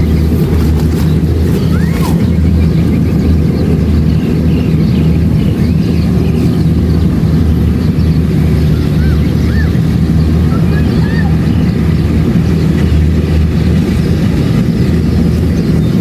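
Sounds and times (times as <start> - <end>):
combine harvester engine droning: 0.0 - 16.0.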